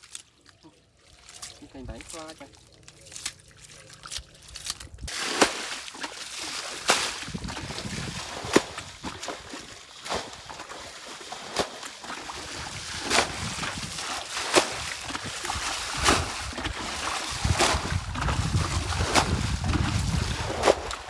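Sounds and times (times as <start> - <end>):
water splashing from bucket: 0.9 - 21.0.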